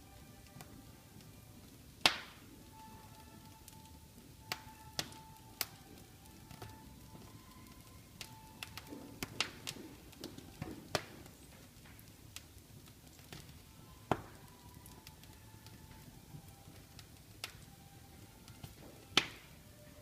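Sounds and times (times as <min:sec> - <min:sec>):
wood fire crackling: 0:00.0 - 0:20.0
sharp pops of fire: 0:00.3 - 0:20.0.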